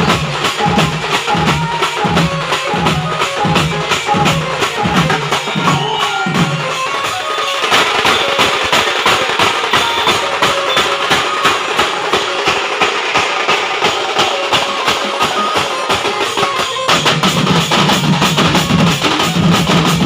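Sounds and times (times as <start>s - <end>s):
fast dense drumming: 0.0s - 20.0s
loud band music: 0.0s - 20.0s.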